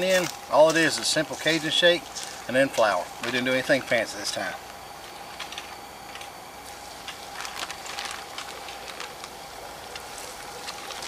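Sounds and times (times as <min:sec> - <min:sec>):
plastic bag crinkling: 0:00.0 - 0:04.0, 0:04.6 - 0:11.0.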